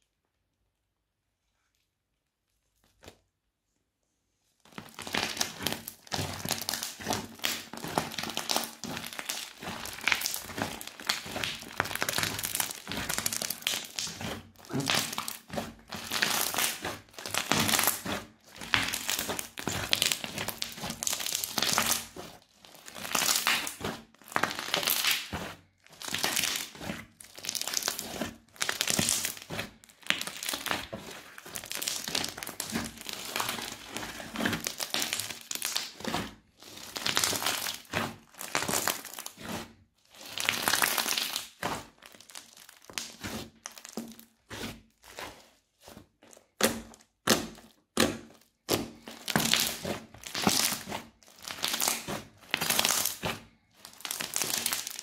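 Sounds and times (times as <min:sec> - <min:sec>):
crunchy slime squeezed by hand: 0:04.7 - 0:55.0.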